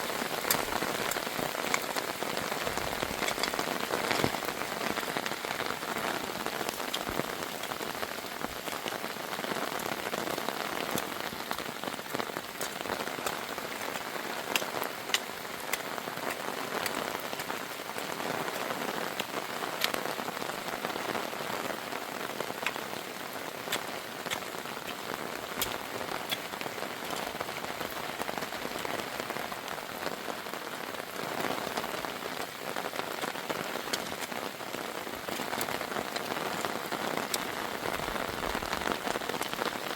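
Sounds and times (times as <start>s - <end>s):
heavy rain falling: 0.0s - 39.9s
sharp raindrop hits: 0.0s - 39.9s.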